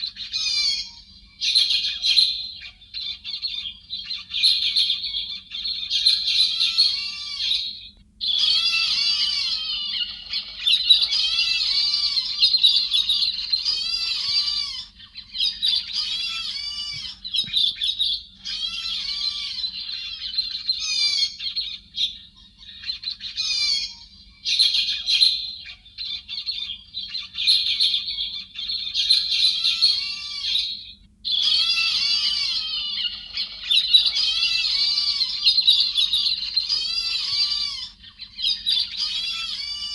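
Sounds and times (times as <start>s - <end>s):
faint low hum: 0.0s - 39.9s
thrushes calling and chattering: 0.0s - 39.9s.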